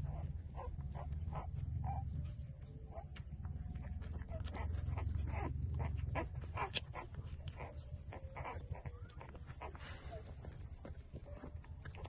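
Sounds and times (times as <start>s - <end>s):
low steady rumble: 0.0s - 12.0s
puppies whimpering: 0.0s - 12.0s
puppies suckling wet slurps: 0.1s - 12.0s.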